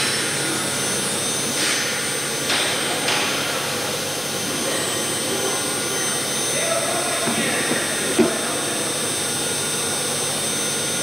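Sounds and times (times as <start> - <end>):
machine hum with high whine: 0.0 - 11.0.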